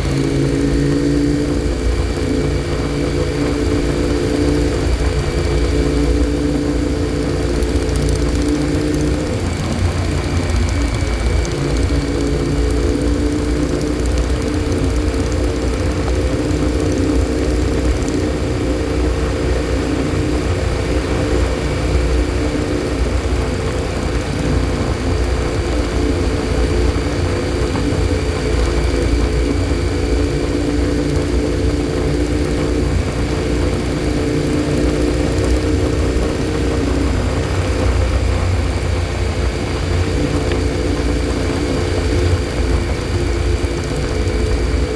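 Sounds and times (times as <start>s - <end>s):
low wind rumble: 0.0s - 44.9s
motorcycle engine cruising: 0.0s - 44.9s.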